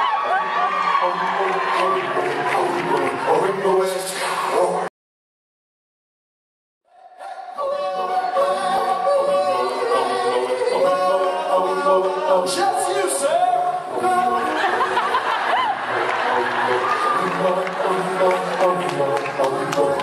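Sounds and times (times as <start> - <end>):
a cappella group singing in harmony: 0.1 - 4.9, 6.9 - 20.0.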